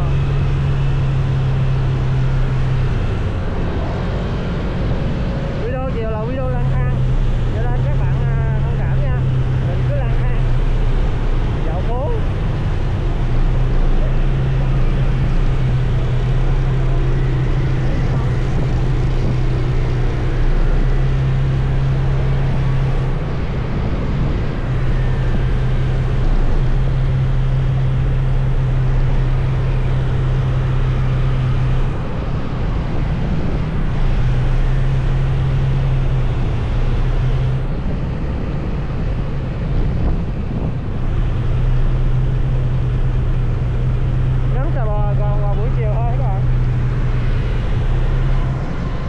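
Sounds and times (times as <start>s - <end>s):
vehicle engine running: 0.0s - 49.0s
wind noise on microphone: 0.0s - 49.0s.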